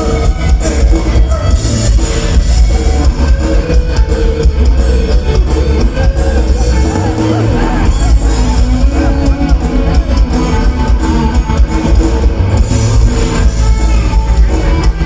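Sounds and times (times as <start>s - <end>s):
live band playing loudly: 0.0s - 15.0s.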